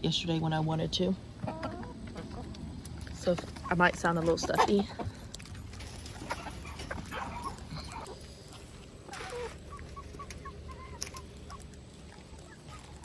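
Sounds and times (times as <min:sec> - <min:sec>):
chickens calling softly: 0:01.3 - 0:05.3, 0:06.2 - 0:13.0.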